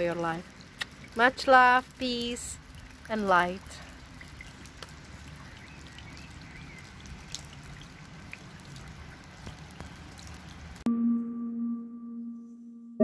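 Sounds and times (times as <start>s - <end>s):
light rain patter: 0.0s - 10.9s.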